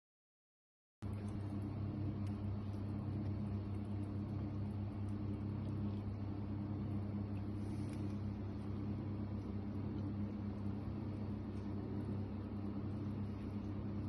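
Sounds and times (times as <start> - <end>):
steady low hum with tones: 1.0 - 14.0.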